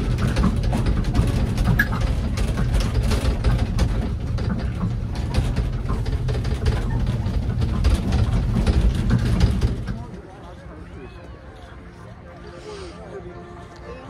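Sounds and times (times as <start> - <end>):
ride train rumbling: 0.0 - 14.0.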